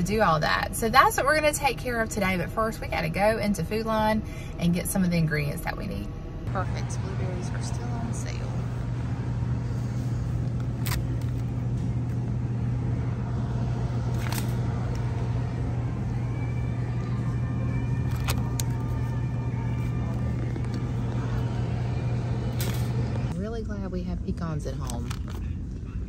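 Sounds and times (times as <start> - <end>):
refrigeration hum: 0.0 - 26.0.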